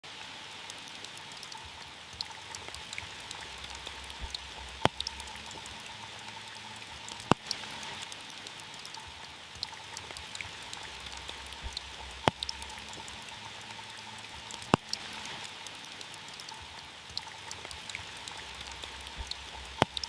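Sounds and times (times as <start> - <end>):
rain falling on a car: 0.0 - 20.0.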